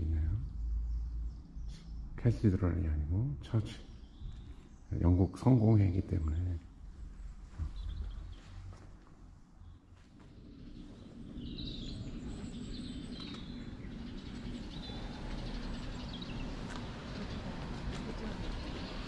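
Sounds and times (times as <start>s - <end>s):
low outdoor background noise: 0.0s - 19.0s
small birds chirping: 0.0s - 19.0s.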